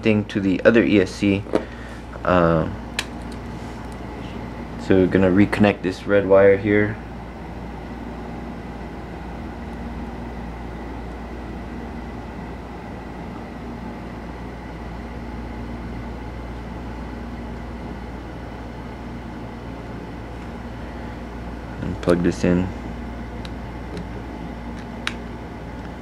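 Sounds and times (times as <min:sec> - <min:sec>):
room hum and hiss: 0:00.0 - 0:26.0.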